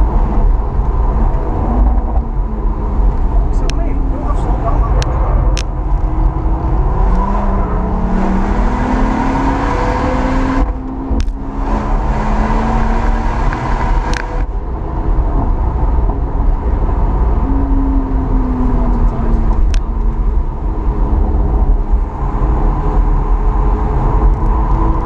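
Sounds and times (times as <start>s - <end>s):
car engine revving: 0.0s - 25.0s
road and wind noise: 0.0s - 25.0s.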